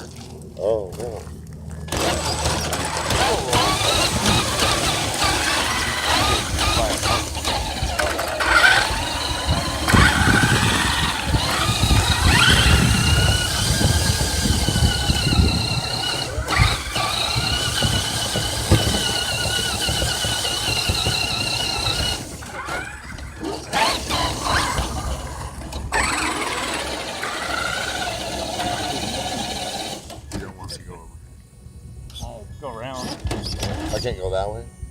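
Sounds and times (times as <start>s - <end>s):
rc car motor whining: 1.9s - 30.8s.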